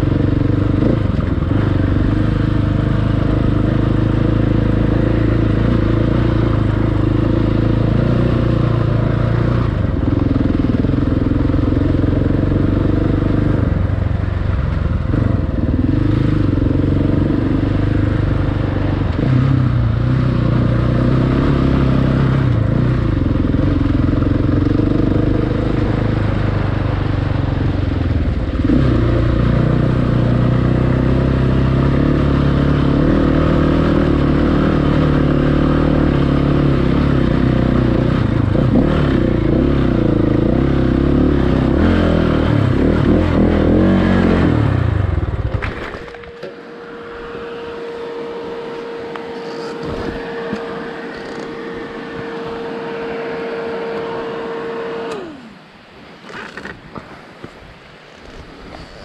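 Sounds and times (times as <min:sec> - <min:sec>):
motorcycle engine revving: 0:00.0 - 0:56.8.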